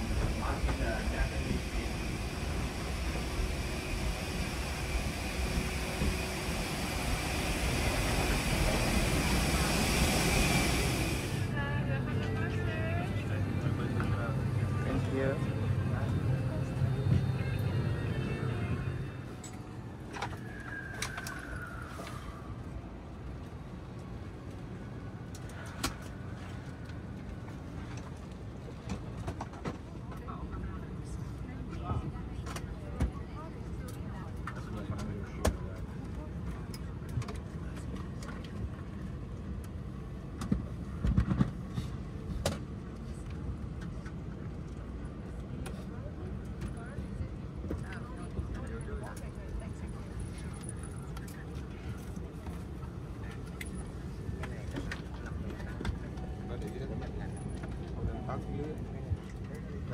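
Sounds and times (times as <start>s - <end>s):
aircraft machinery rumble: 0.0s - 59.9s
airplane cabin hum: 0.0s - 59.9s.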